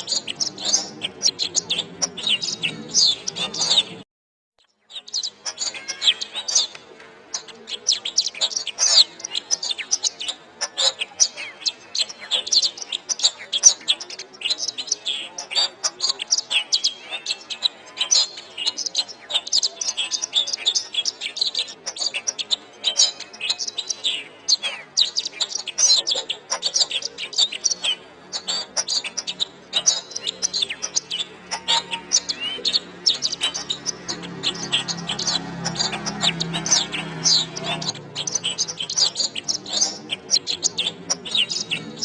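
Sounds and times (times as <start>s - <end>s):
canary singing: 0.0s - 4.0s, 4.6s - 42.0s.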